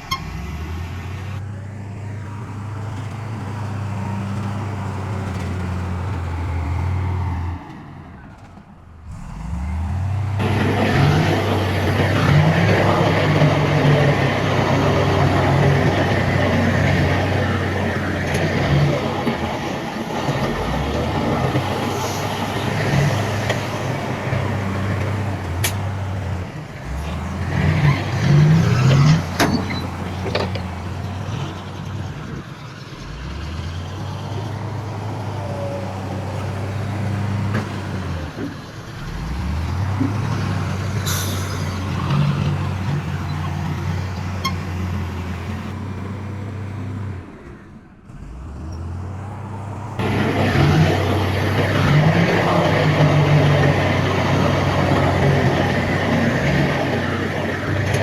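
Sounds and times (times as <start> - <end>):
heavy diesel machinery engines running: 0.0 - 58.0.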